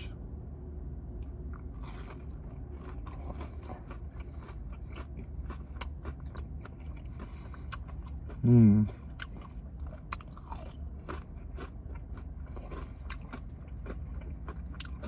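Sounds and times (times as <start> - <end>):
low steady hum: 0.0 - 15.0
biting and chewing crunchy food: 1.1 - 15.0.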